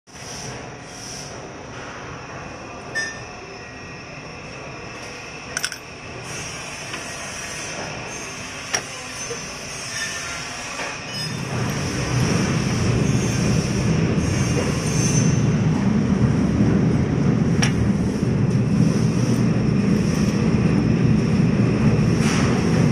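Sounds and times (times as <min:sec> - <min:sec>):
factory machinery hum: 0:00.1 - 0:22.9.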